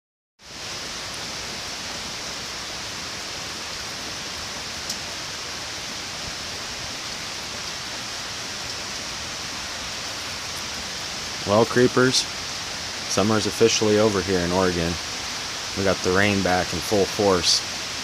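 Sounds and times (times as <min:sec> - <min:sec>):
heavy rain falling: 0:00.4 - 0:18.0.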